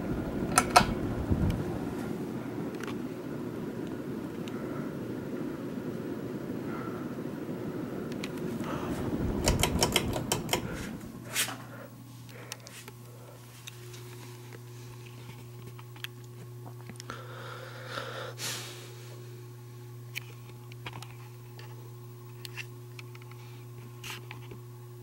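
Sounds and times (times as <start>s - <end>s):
ceiling fan motor hum: 0.0s - 25.0s.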